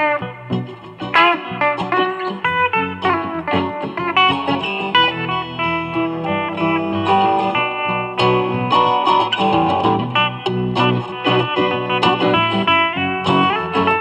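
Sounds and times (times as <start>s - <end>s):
guitar plucked notes and chords: 0.0s - 14.0s.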